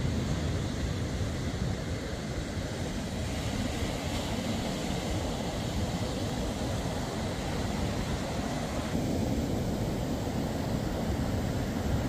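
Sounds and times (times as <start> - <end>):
surf washing: 0.0 - 12.0.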